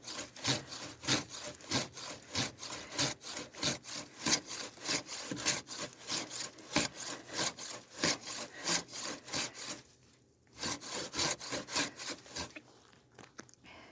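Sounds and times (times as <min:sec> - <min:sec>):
hand saw cutting wood: 0:00.0 - 0:12.6.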